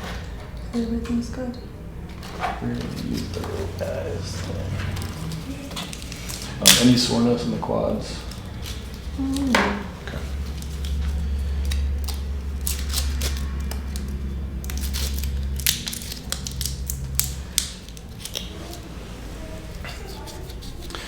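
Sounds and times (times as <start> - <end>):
low motor hum: 0.0 - 19.9.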